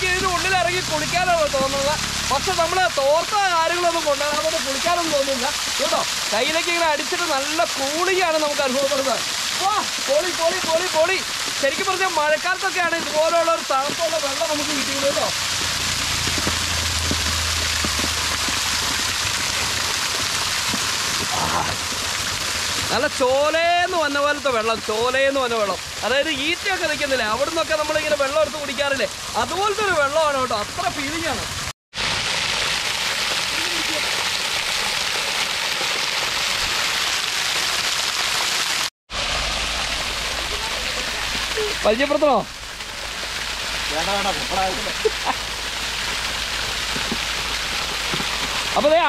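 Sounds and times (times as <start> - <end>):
water gushing and splashing: 0.0 - 49.0.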